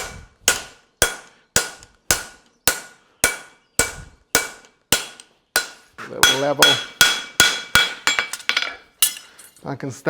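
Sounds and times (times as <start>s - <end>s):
hammer striking steel on anvil: 0.0s - 9.5s.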